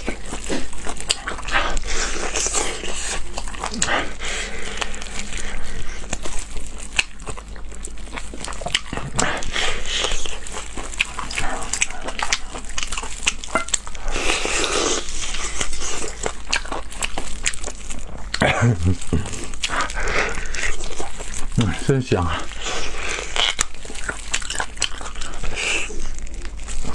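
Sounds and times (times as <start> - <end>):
wet chewing: 0.0 - 26.9.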